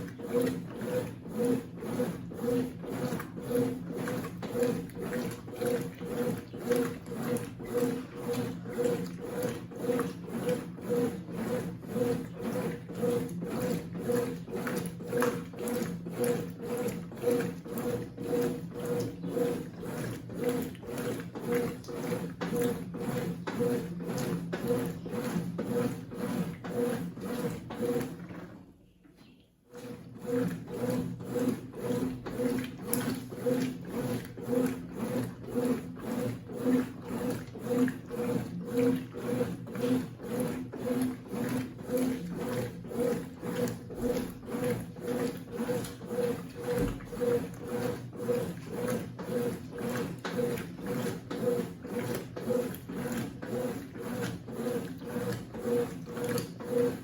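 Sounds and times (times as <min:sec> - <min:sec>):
washing machine churning: 0:00.0 - 0:28.8, 0:29.6 - 0:57.0
washing machine motor hum: 0:00.0 - 0:57.0.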